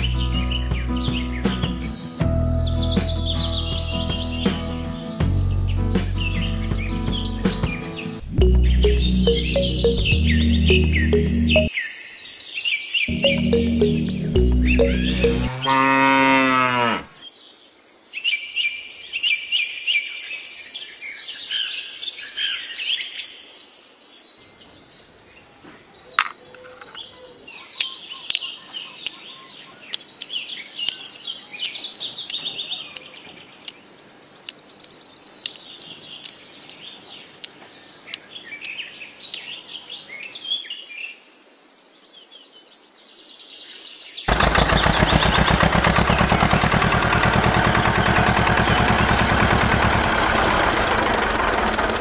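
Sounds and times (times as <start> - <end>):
small birds chirping: 0.0 - 4.8, 5.6 - 17.7, 24.1 - 40.9, 42.3 - 52.0.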